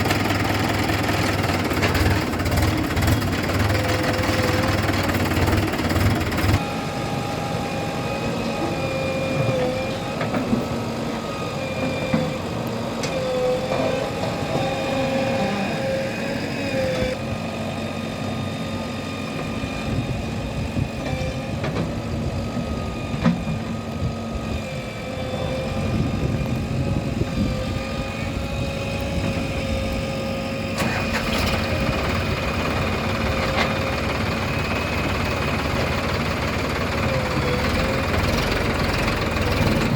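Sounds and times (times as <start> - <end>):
heavy machinery engines rumbling: 0.0 - 39.9.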